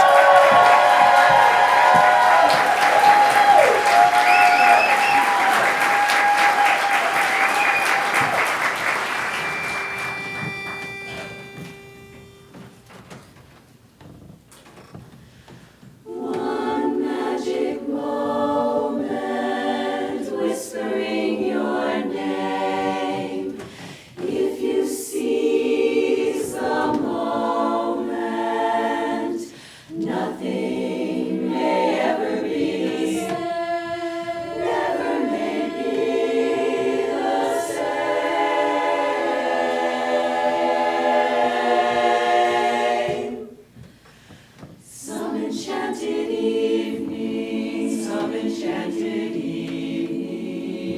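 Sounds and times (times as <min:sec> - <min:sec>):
a cappella chorus singing: 0:00.0 - 0:11.3, 0:16.0 - 0:50.9.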